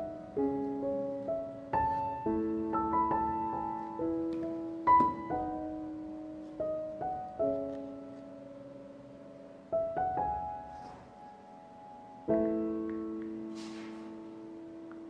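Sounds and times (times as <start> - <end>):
slow solo piano music: 0.0 - 15.0.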